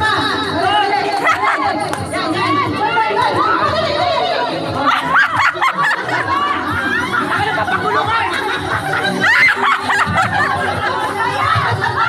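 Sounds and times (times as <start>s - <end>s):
people laughing: 0.8s - 2.1s, 3.4s - 12.0s.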